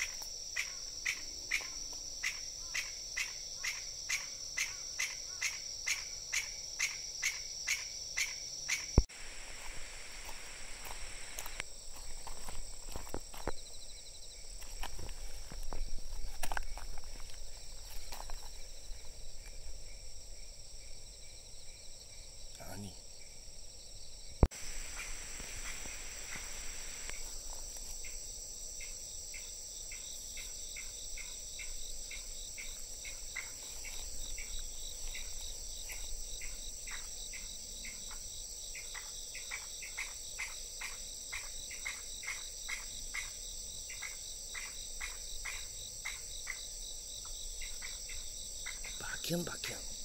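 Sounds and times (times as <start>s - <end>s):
insect chirps: 0.0s - 50.0s
insects trilling: 0.0s - 50.0s.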